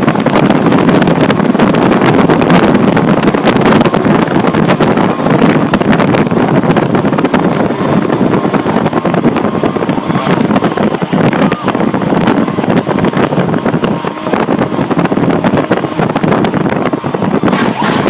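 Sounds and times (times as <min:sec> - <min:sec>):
truck engine and road noise: 0:00.0 - 0:18.0
wind buffeting microphone: 0:00.0 - 0:18.0.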